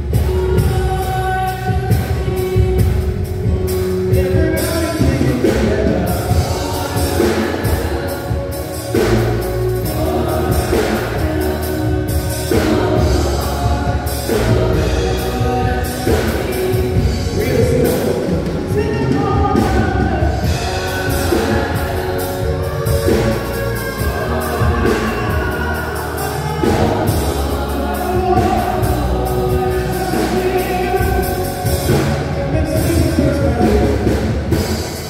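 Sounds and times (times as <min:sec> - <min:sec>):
accompaniment with beat and bass: 0:00.0 - 0:35.0
gospel group singing in harmony: 0:00.0 - 0:35.0.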